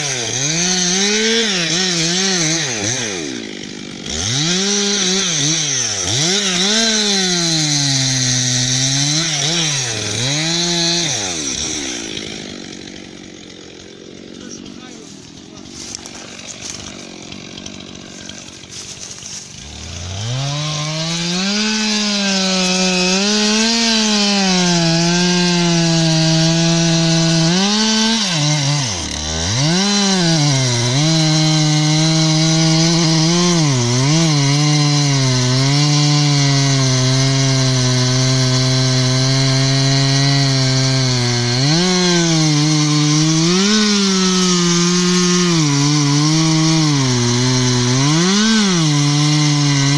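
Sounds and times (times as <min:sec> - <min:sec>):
chainsaw cutting tree trunk: 0:00.0 - 0:49.9.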